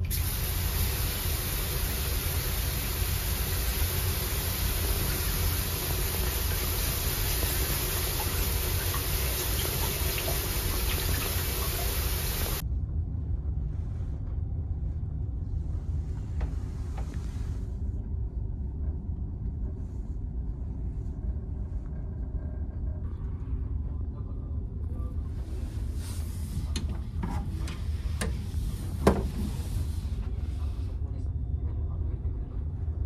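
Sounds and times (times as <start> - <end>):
low rumble of ship engines: 0.0 - 33.0.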